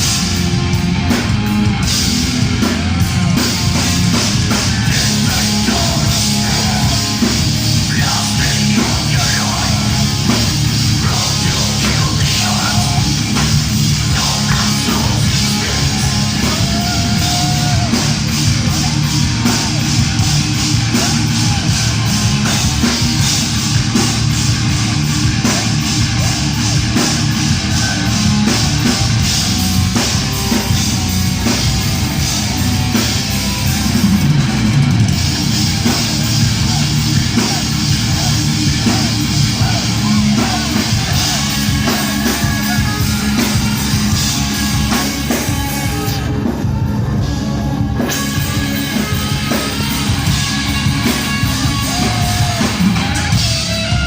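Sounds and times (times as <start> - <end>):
live heavy metal band playing: 0.0 - 54.0.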